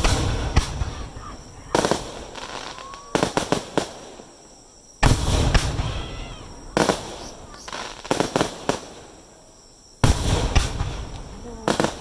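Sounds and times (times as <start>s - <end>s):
firework shells bursting: 0.0s - 9.4s, 10.0s - 12.0s.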